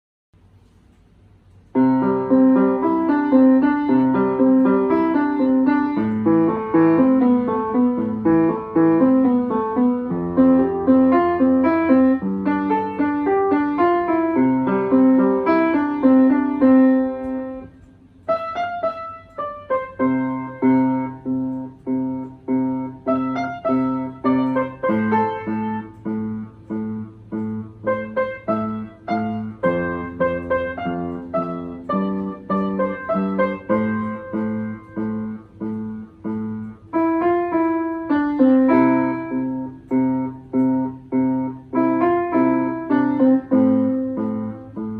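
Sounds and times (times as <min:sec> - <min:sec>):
piano playing: 0:01.7 - 0:44.9.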